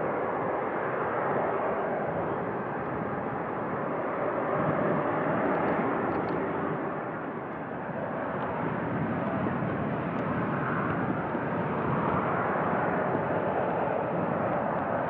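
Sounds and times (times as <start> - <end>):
jet engines taxiing: 0.0 - 15.0.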